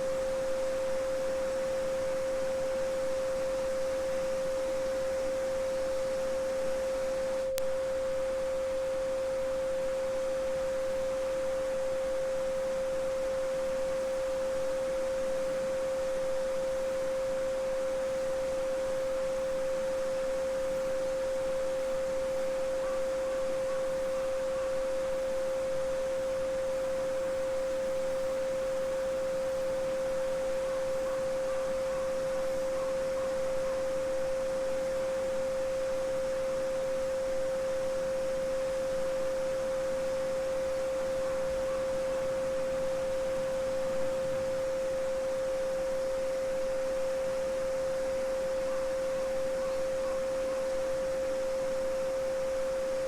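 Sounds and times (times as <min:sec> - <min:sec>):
steady sine tone: 0:00.0 - 0:53.0.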